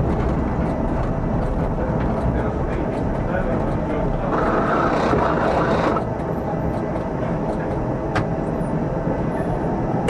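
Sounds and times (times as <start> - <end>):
tram wheels rumbling on rails: 0.0 - 10.0.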